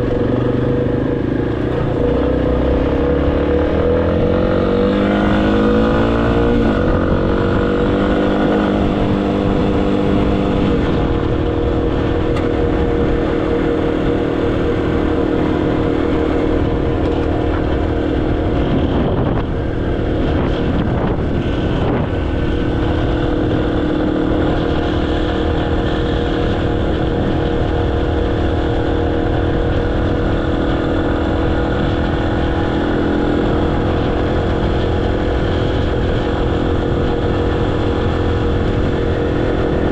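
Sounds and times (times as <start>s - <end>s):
low rushing noise: 0.0s - 39.9s
motorcycle engine shifting gears: 0.0s - 39.9s.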